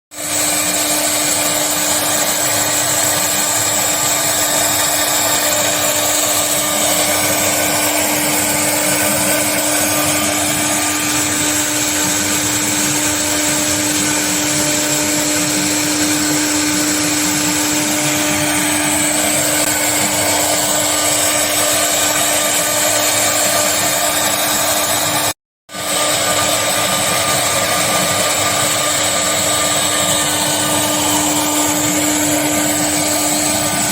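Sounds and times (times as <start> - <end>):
router spindle whine: 0.1 - 33.9
wood cutting noise: 0.1 - 33.9.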